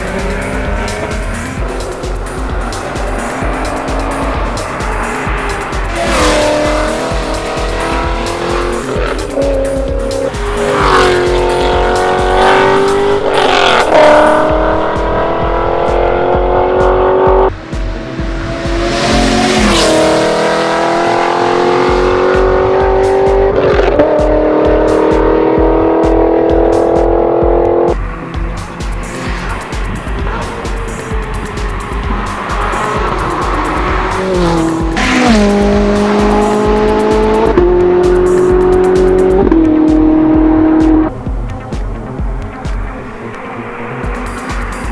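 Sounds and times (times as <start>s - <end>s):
car engine accelerating hard: 0.0s - 41.3s.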